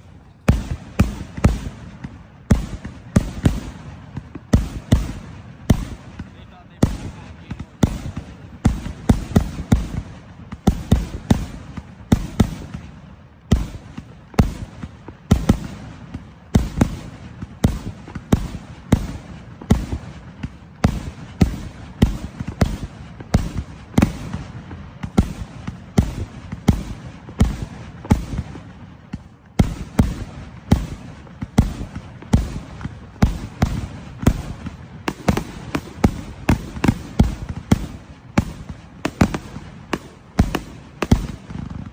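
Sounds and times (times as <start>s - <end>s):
fireworks booming and banging: 0.0s - 41.9s.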